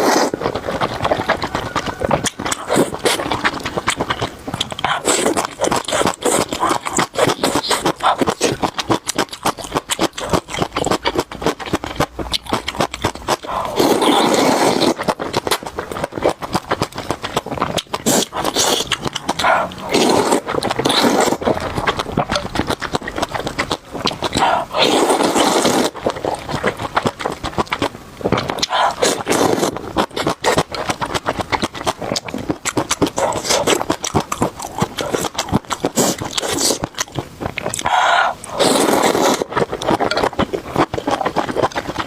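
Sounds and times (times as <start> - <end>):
crunching and chewing: 0.0 - 42.0.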